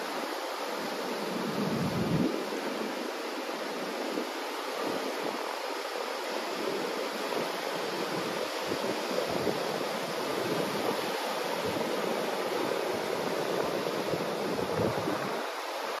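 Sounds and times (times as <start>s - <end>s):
distant surf breaking: 0.0s - 16.0s
small waves washing on beach: 0.0s - 16.0s.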